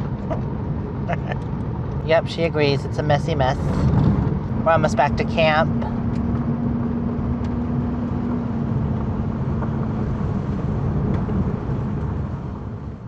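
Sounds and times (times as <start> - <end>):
pickup engine and tyre rumble: 0.0 - 13.0.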